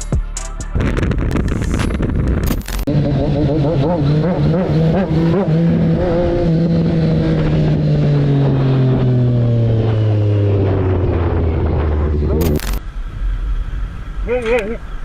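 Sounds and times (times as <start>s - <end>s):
motorcycle engine running: 1.2s - 15.0s.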